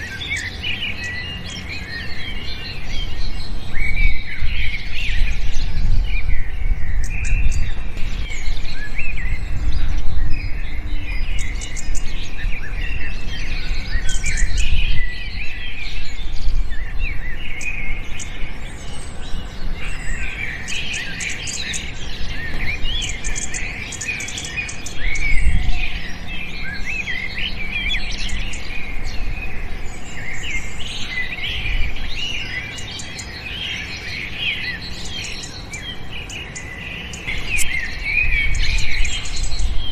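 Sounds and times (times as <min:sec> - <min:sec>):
birds chirping in chorus: 0:00.0 - 0:39.9.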